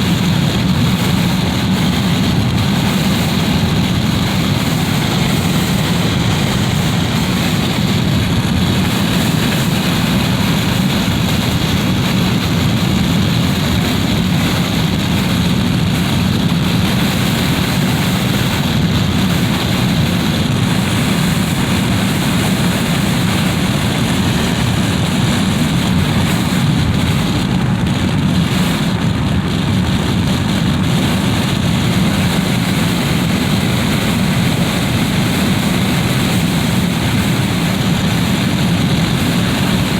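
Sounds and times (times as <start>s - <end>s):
wind rushing through window: 0.0s - 39.9s.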